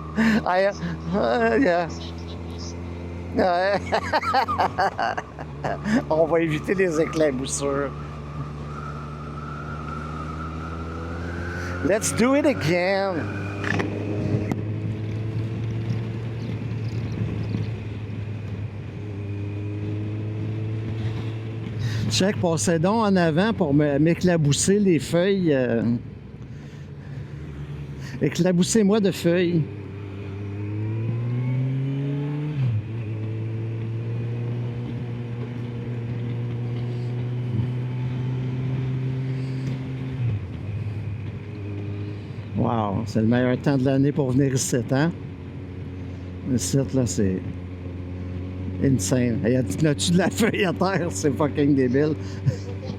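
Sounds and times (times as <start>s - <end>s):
motorcycle engine humming: 0.0s - 52.9s
wind and road noise: 0.0s - 52.9s.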